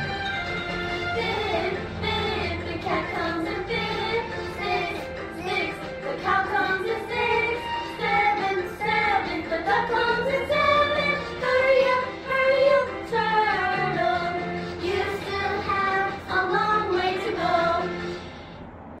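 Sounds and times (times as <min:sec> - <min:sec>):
children's song with backing beat: 0:00.0 - 0:18.6.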